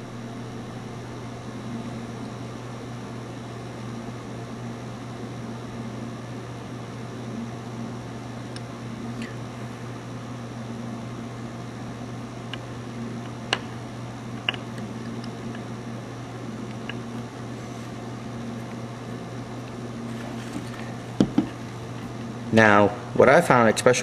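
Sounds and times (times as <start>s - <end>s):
low hum and hiss: 0.0s - 24.0s.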